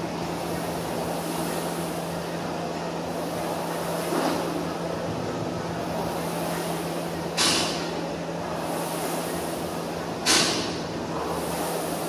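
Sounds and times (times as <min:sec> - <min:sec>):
constant low hum: 0:00.0 - 0:12.0
rowing machine fan whooshing: 0:00.0 - 0:12.0.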